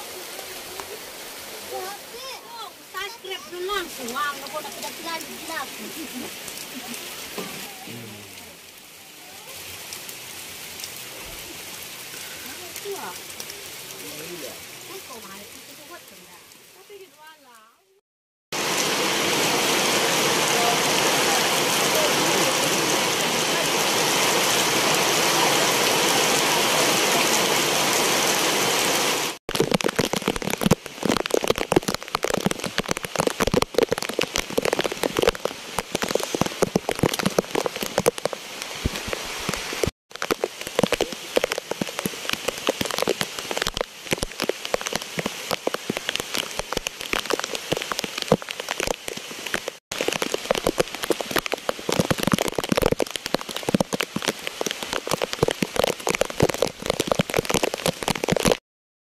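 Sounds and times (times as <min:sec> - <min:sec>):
heavy rain hissing: 0:00.0 - 0:17.5, 0:18.6 - 0:58.6
raindrops striking a surface: 0:00.0 - 0:58.6.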